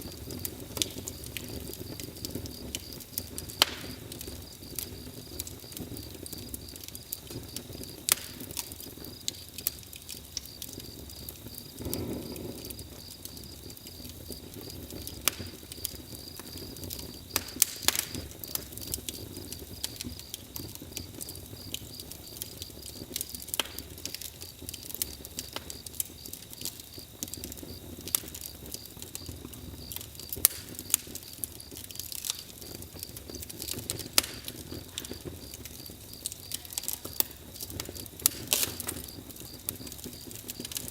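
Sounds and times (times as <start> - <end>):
campfire crackling and popping: 0.0 - 40.9
low hiss of burning wood: 0.0 - 40.9.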